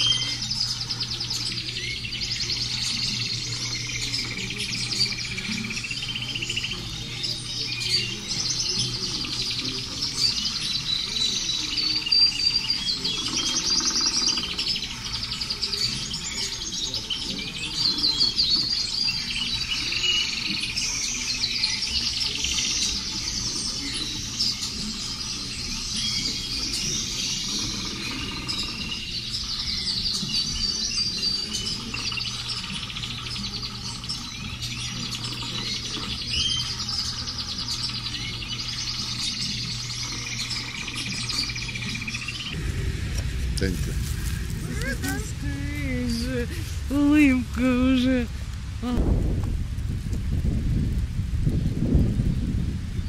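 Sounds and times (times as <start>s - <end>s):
low steady hum: 0.0s - 53.0s
small birds chirping: 0.0s - 53.0s.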